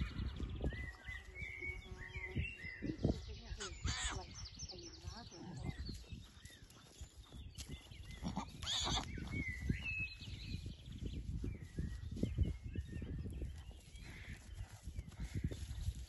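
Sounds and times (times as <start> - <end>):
horse hooves thudding: 0.0 - 16.0.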